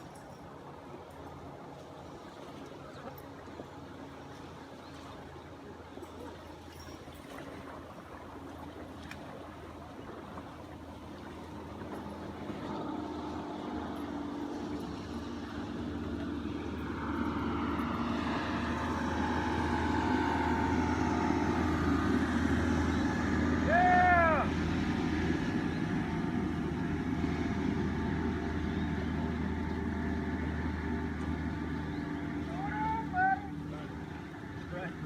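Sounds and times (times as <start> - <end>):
motorboat engine running: 0.0 - 35.0.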